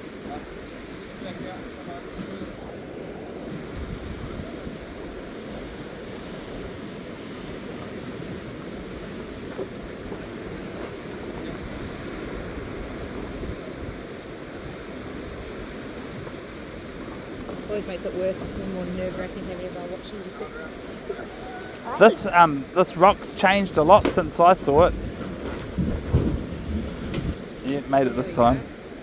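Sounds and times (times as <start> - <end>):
surf washing onto rocks: 0.0 - 29.0
wind buffeting microphone: 0.0 - 29.0.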